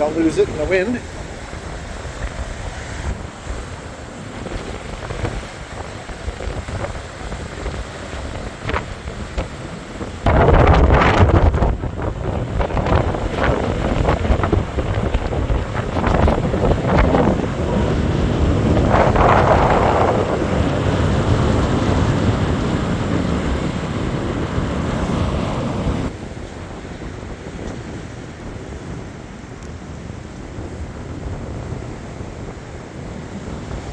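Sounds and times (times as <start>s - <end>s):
strong surf: 0.0s - 33.9s
wind buffeting microphone: 0.0s - 33.9s.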